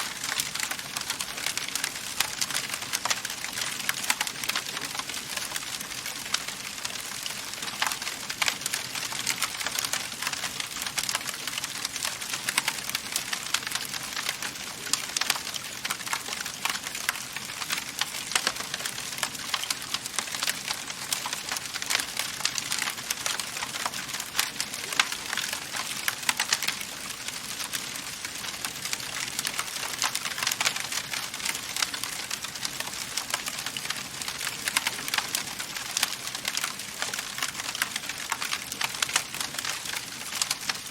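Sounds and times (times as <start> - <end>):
soft hiss of burning: 0.0 - 40.9
wood fire crackling and popping: 0.0 - 40.9.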